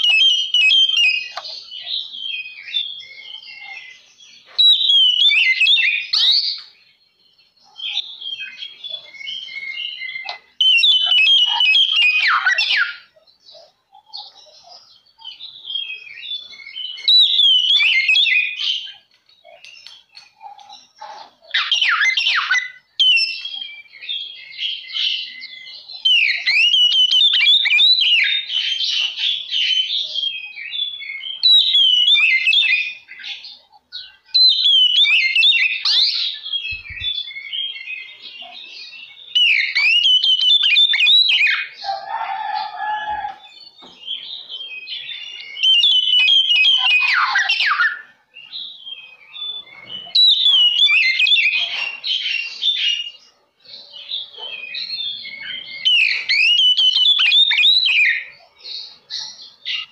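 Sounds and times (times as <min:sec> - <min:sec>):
bird singing whistled trills: 0:00.0 - 0:59.9.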